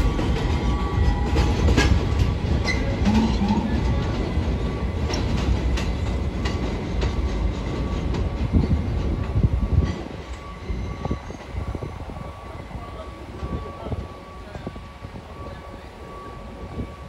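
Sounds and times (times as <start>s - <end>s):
train wheels clacking over rails: 0.0s - 15.6s
train rumble: 0.0s - 17.0s.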